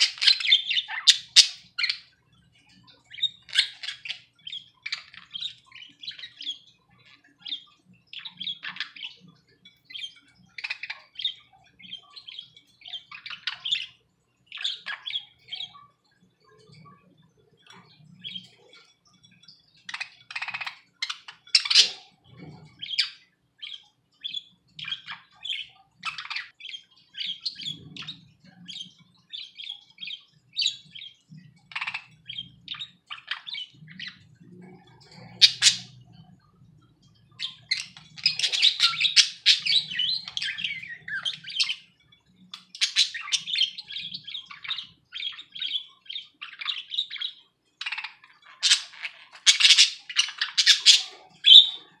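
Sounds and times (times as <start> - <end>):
budgerigars chirping: 0.0 - 15.8, 19.4 - 36.2, 37.3 - 52.0.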